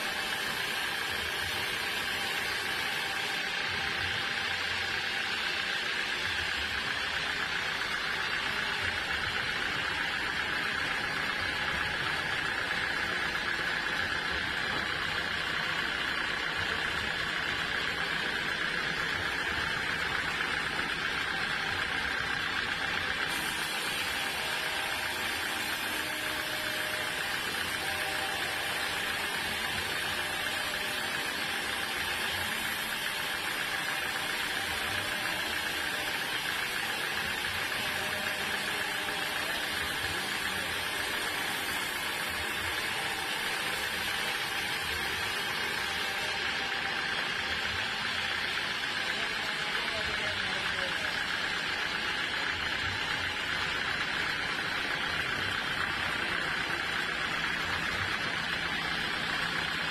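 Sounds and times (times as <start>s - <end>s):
sawmill machinery hiss: 0.0s - 59.9s
steady machine whine: 0.0s - 59.9s.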